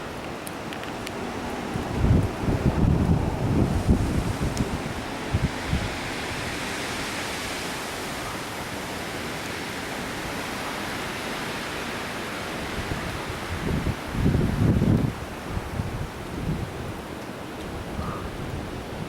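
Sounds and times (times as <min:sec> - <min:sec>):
wind blowing: 0:00.0 - 0:19.0
wind buffets on microphone: 0:00.0 - 0:19.0.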